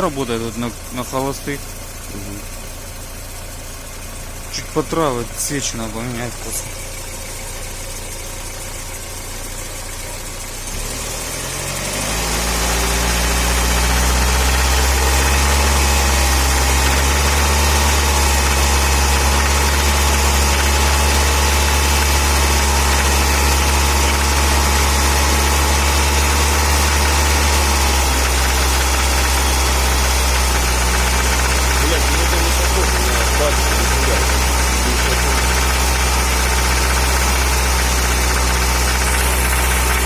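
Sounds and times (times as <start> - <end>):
car engine idling and revving: 0.0 - 40.0
engine knock: 0.0 - 40.0.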